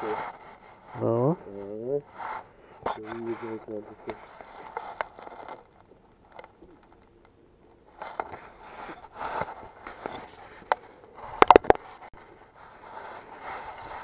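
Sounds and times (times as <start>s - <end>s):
scrapes rustles and clicks: 0.0s - 7.1s, 7.9s - 14.0s.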